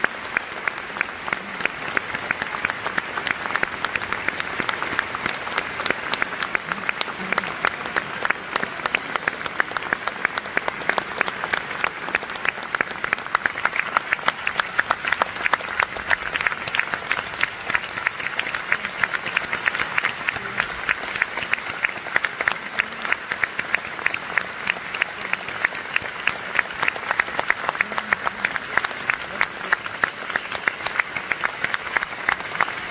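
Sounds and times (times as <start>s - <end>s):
audience applause: 0.0s - 32.9s.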